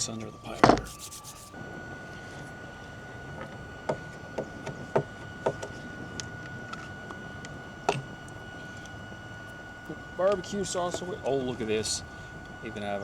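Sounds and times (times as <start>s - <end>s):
stove fan high whine: 0.0s - 13.0s.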